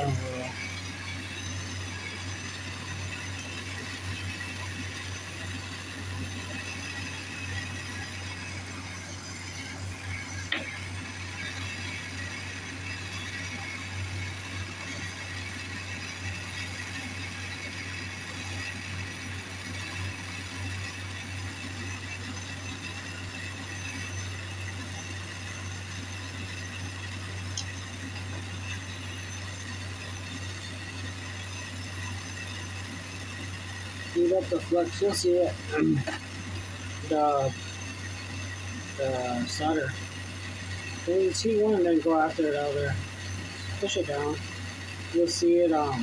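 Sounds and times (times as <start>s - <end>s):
soldering torch hissing: 0.0s - 46.0s
ventilation fan hum: 0.0s - 46.0s.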